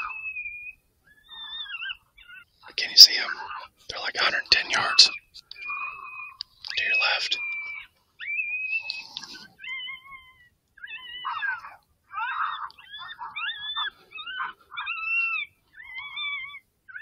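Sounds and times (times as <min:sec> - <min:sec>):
whiny animal cries from predator call: 0:00.0 - 0:17.0.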